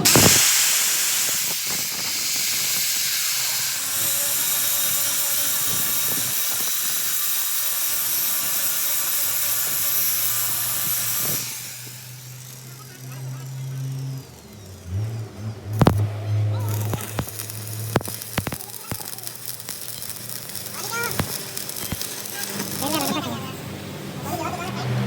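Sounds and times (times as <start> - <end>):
loud steady hiss: 0.0 - 13.9, 15.8 - 24.4.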